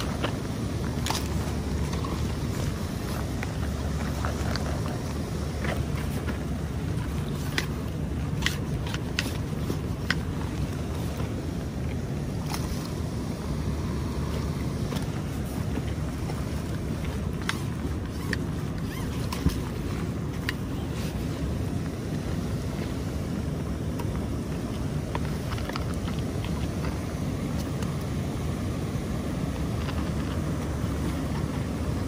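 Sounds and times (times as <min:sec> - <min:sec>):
river water rushing: 0:00.0 - 0:32.0
wind: 0:00.0 - 0:32.0.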